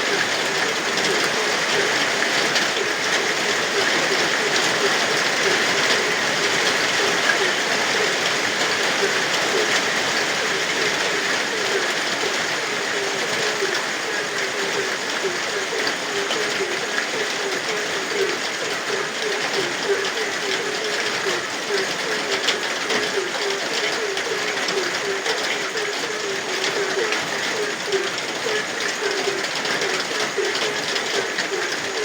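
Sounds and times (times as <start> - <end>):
frogs calling: 0.0 - 32.0
steady rain falling: 0.0 - 32.0.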